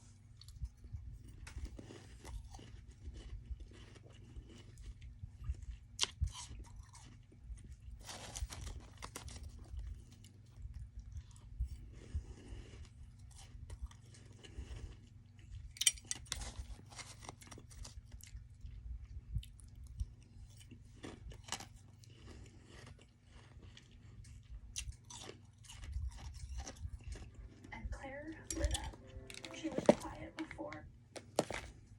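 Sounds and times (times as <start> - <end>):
chewing and crunching ice: 0.0 - 27.7, 31.1 - 31.9
steady low hum: 0.0 - 31.9.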